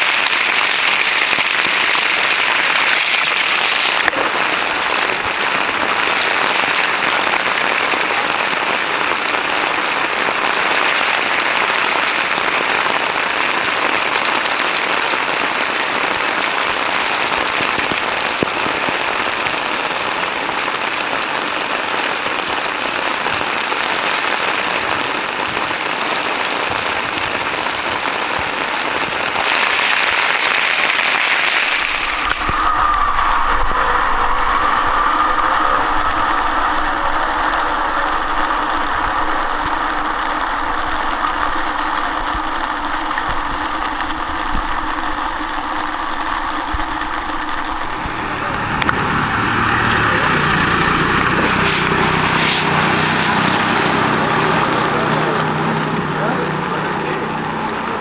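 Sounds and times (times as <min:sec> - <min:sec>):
heavy rain on flooded street: 0:00.0 - 0:58.0.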